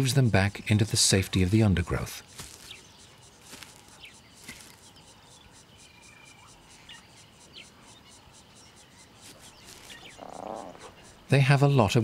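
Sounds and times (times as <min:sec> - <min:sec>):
bird calls chirping: 0:00.0 - 0:12.0
insects pulsing: 0:00.0 - 0:12.0.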